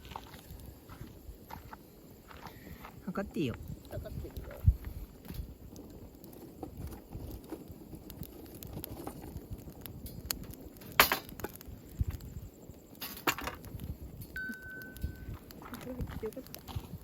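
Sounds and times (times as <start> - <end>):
sharp crack of burning wood: 0.0 - 17.0
wood fire crackling: 0.0 - 17.0.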